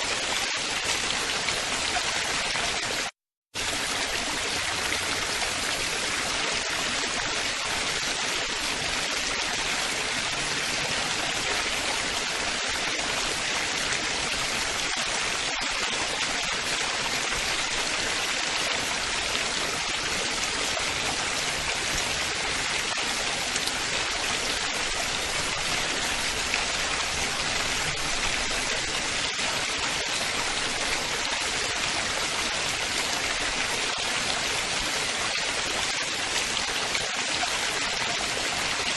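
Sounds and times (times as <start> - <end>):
running water splashing: 0.0 - 38.9.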